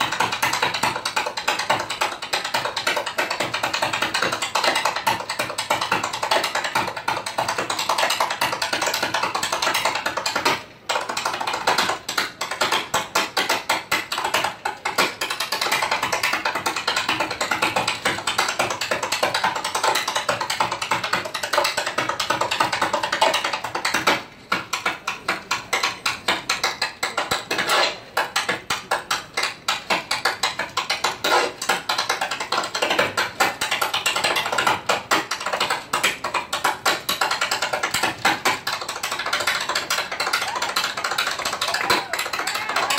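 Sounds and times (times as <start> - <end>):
tap shoes striking stage floor: 0.0 - 42.9.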